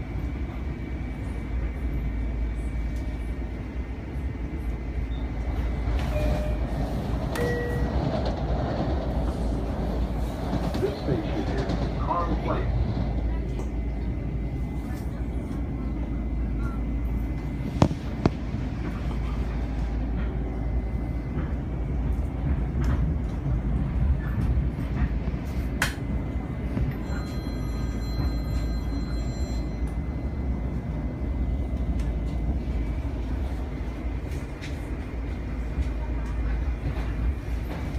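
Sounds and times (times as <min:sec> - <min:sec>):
railcar rumbling: 0:00.0 - 0:37.9.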